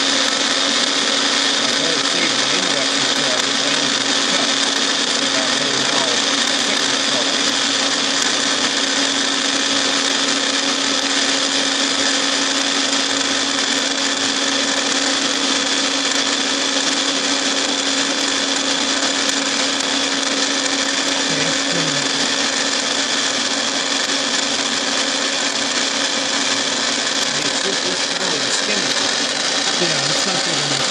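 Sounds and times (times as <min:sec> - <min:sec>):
milling machine whine: 0:00.0 - 0:30.9.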